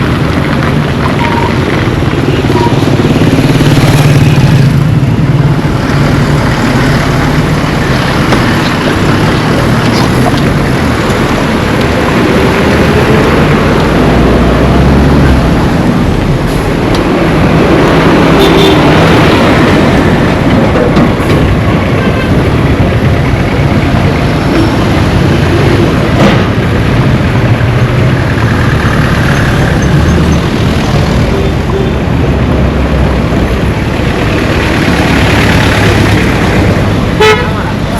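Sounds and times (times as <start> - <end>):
steady traffic rush: 0.0 - 37.9
vehicle engines running: 0.0 - 37.9.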